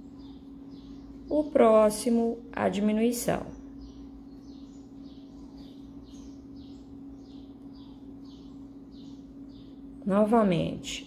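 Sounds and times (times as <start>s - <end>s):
faint bird chirping: 0.0s - 11.0s
steady low hum: 0.0s - 11.0s.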